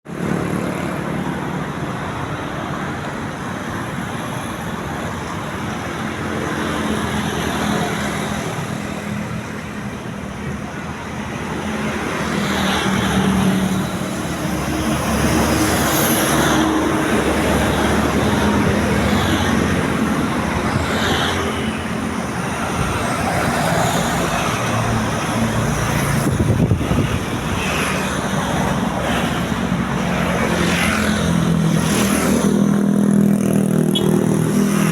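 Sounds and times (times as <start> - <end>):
vehicles passing: 0.1 - 34.9.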